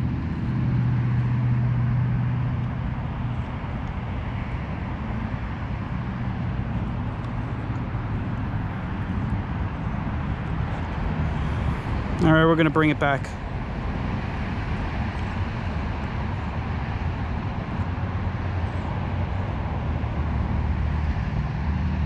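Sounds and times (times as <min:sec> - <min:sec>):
cars passing on highway: 0:00.0 - 0:22.0
low engine hum: 0:00.0 - 0:22.0.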